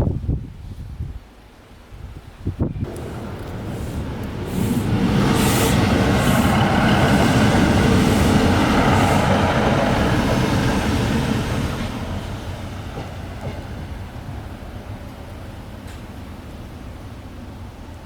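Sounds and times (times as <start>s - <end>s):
diesel train passing on rails: 2.8s - 18.0s.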